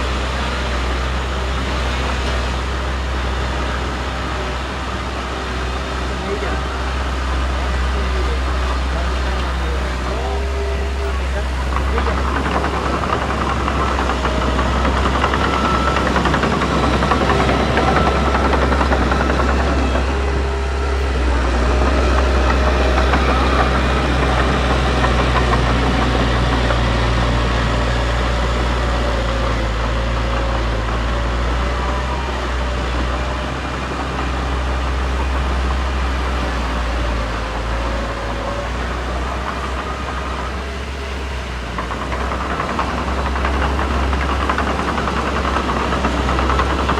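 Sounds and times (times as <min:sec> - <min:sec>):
heavy machinery diesel drone: 0:00.0 - 0:46.9.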